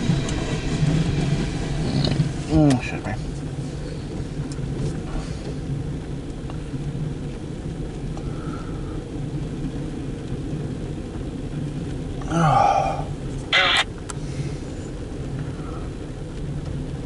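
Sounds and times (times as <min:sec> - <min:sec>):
car interior rumble and hum: 0:00.0 - 0:17.0.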